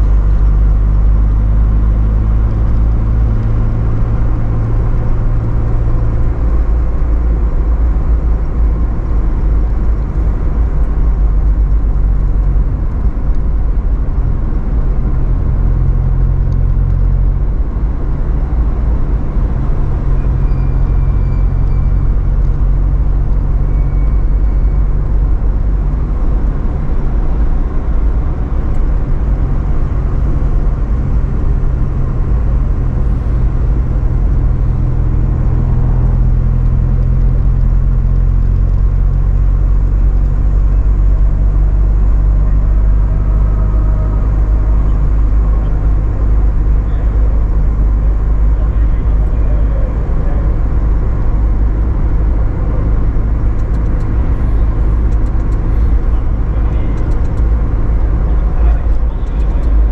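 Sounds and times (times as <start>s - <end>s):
car engine cruising: 0.0s - 59.9s
road noise: 0.0s - 59.9s.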